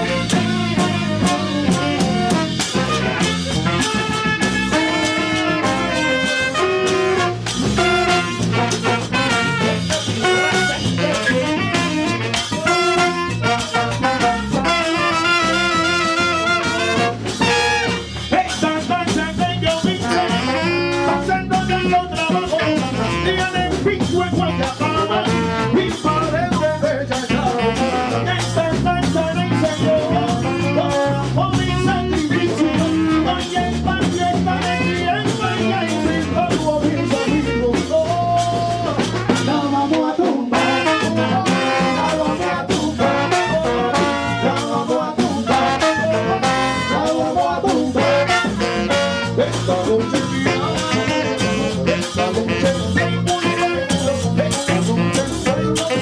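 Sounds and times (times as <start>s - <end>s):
brass section playing: 0.0s - 56.0s.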